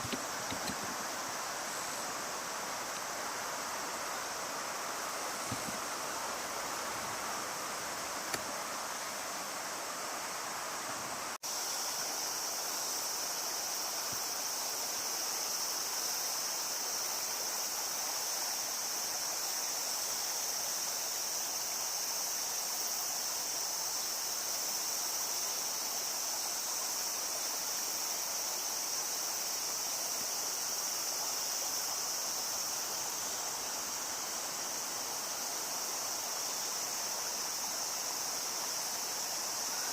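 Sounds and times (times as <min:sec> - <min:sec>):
cicadas droning: 0:00.0 - 0:39.9
river water flowing: 0:00.0 - 0:39.9.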